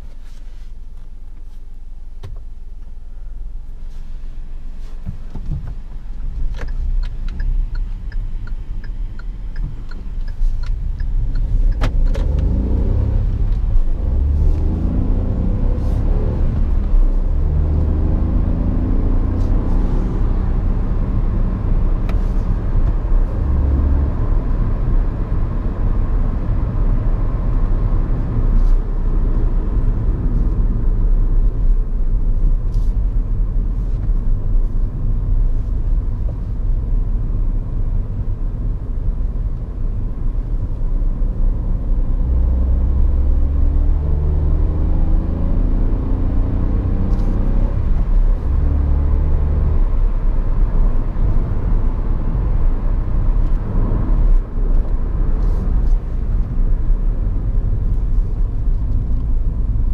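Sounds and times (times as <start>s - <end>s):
tyre and road noise: 3.7s - 59.9s
car engine accelerating: 5.3s - 59.9s.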